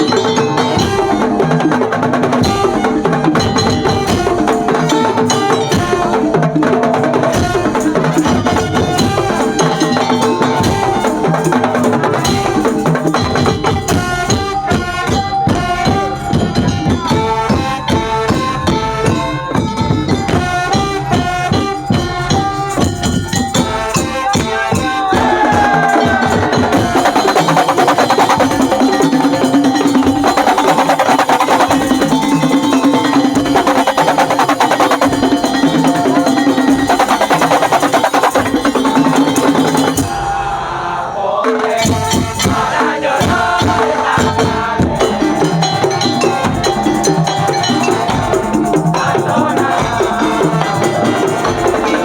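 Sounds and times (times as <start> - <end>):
percussion ensemble playing: 0.0 - 52.0.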